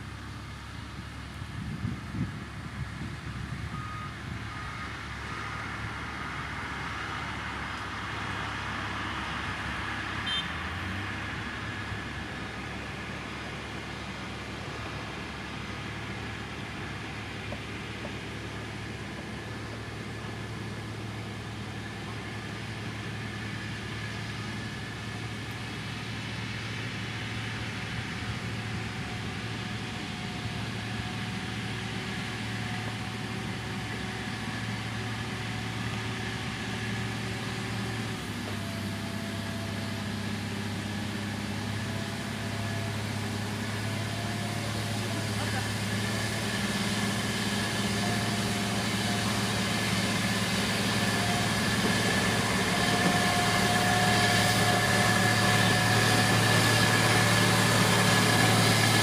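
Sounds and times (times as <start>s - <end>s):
heavy diesel machinery engine running: 0.0s - 59.0s.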